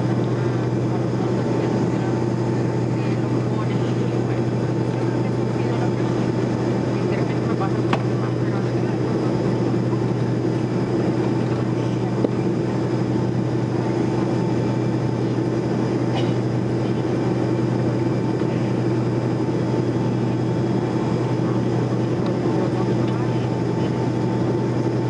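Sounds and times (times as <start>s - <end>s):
jet engines humming and whining: 0.0s - 25.0s.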